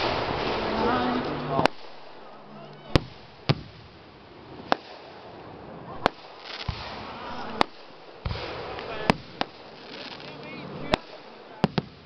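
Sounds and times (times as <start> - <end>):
crackling hiss: 0.0 - 12.0
fireworks bangs: 0.0 - 12.0
low fireworks booms: 0.0 - 12.0.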